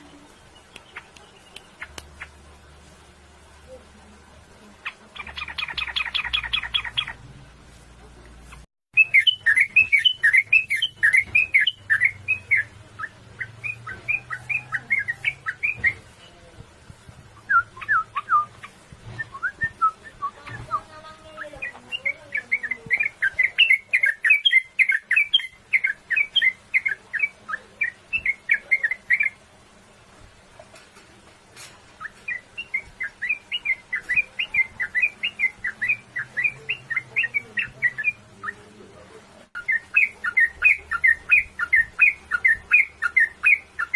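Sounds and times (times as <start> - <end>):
bird singing rolling chirps: 0.0 - 7.3, 8.4 - 16.5, 17.3 - 29.5, 31.9 - 43.9.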